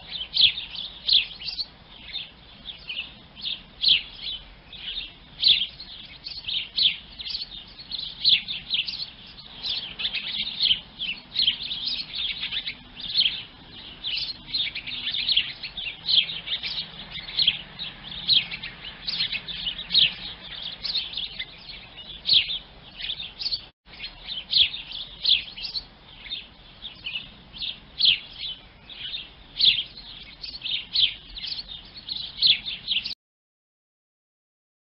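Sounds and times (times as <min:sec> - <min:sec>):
sparrows chirping: 0:00.0 - 0:33.2.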